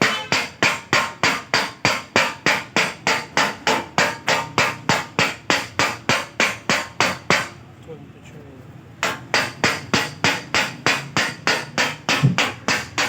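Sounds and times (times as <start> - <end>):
hammer striking sheet metal: 0.0 - 7.6, 9.0 - 13.0.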